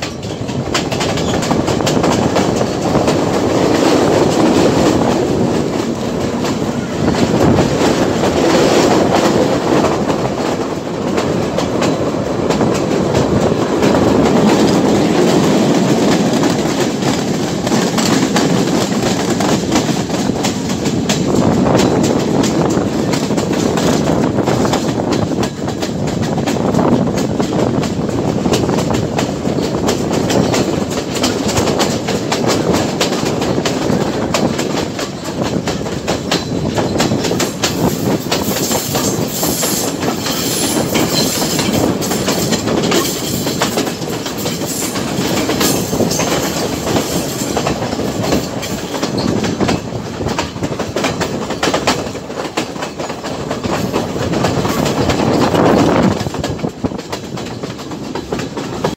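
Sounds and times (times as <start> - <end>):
passenger train rumbling: 0.0 - 58.9
wheels clacking over rail joints: 0.0 - 58.9.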